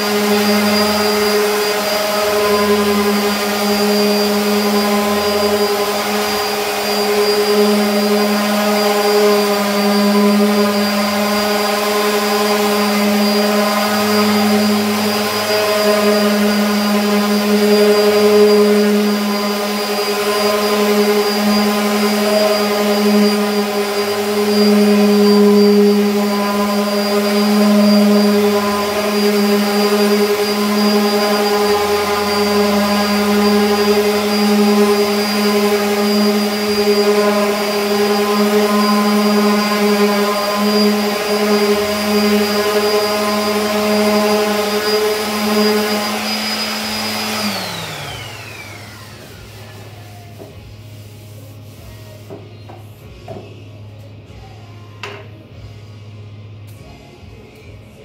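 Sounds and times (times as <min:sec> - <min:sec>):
orbital sander on wood: 0:00.0 - 0:50.7.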